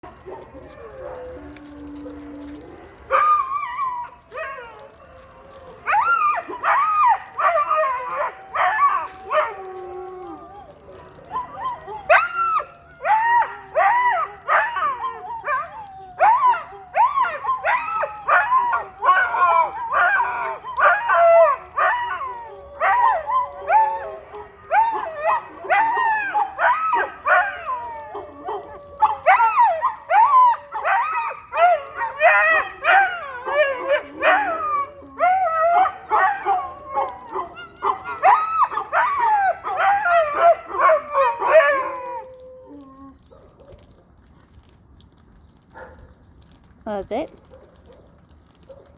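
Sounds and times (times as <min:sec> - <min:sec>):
dogs howling: 0:00.0 - 0:46.8.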